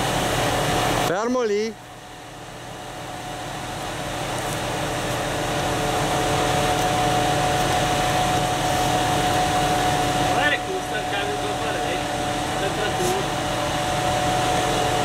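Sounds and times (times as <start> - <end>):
wood chipper running: 0.0 - 15.0.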